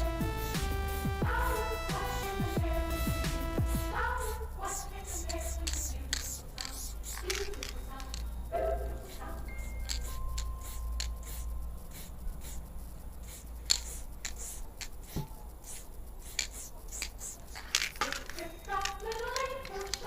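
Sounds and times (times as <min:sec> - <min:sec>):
spray paint can hissing: 0:00.0 - 0:02.8, 0:03.4 - 0:20.0.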